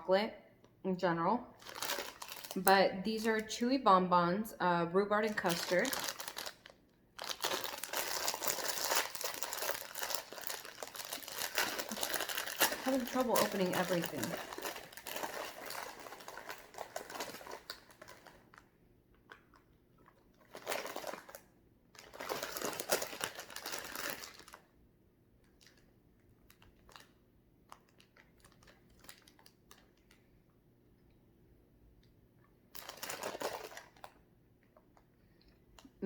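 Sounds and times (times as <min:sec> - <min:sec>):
candy packet crinkling: 0:01.5 - 0:03.6, 0:05.0 - 0:24.8, 0:25.4 - 0:30.3, 0:32.6 - 0:36.0.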